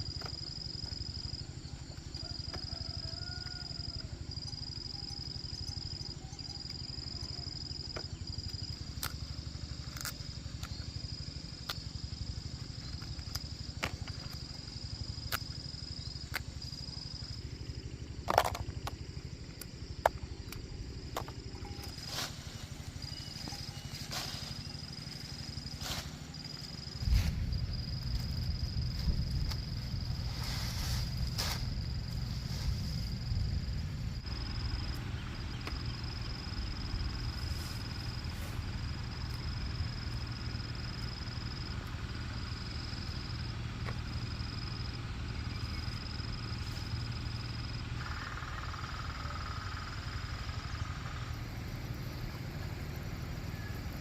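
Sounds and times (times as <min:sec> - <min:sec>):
insect trilling: 0:00.0 - 0:54.0
low rumbling background: 0:00.0 - 0:54.0.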